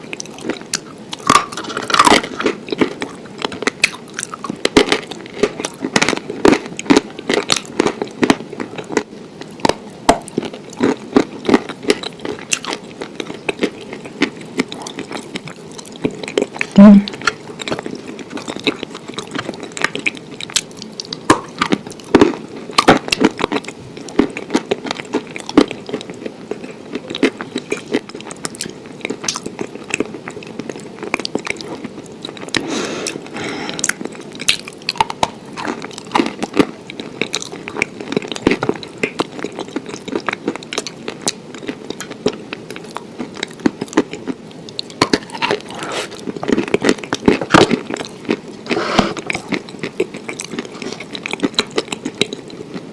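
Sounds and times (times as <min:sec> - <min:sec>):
person chewing crunchy food: 0:00.0 - 0:52.9.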